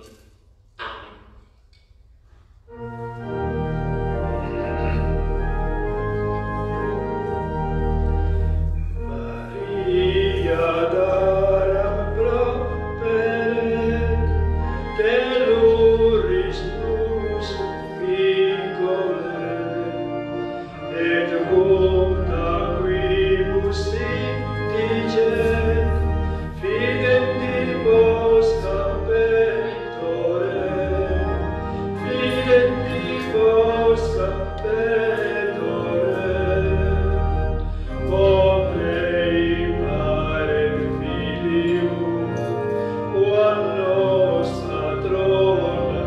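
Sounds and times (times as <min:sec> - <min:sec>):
organ chords: 0:00.0 - 0:46.0.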